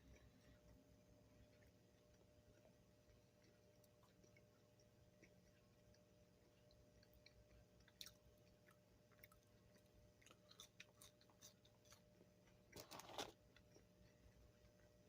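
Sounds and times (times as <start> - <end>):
chewing fries: 0.0 - 15.0.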